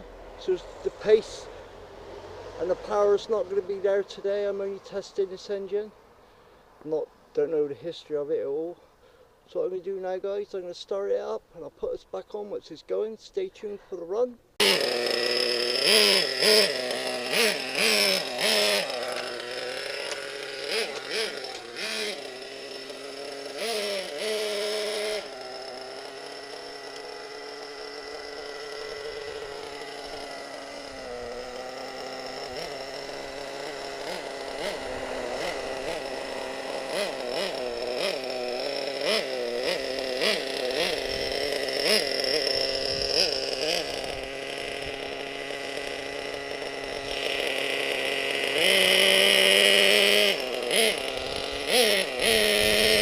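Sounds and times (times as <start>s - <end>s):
rc nitro engine idling and revving: 0.0s - 12.0s, 14.5s - 53.0s.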